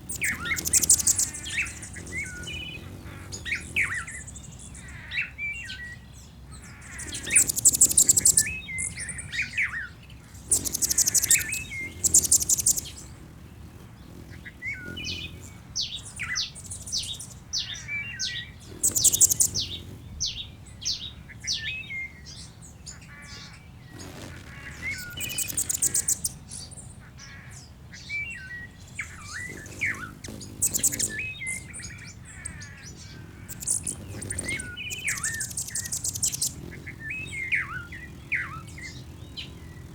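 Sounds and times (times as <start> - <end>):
high fast bird trills: 0.0 - 5.4, 6.6 - 21.7, 23.0 - 27.6, 28.3 - 39.9.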